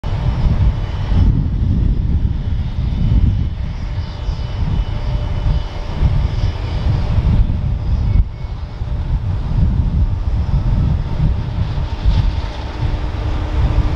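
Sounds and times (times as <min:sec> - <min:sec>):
faint steady whines: 0:00.0 - 0:13.9
jet aircraft rumble: 0:00.0 - 0:13.9.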